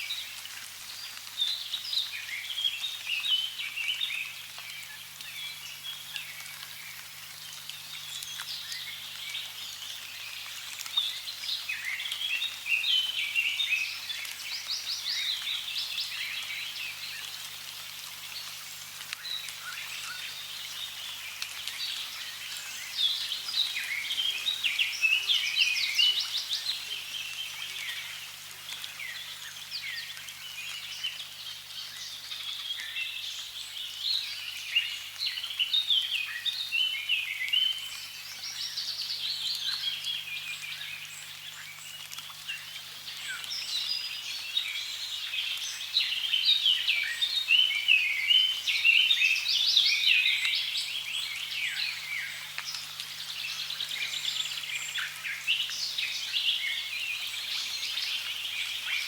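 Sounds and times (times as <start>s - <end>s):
running water hiss: 0.0s - 59.0s
small birds chirping: 0.0s - 59.0s.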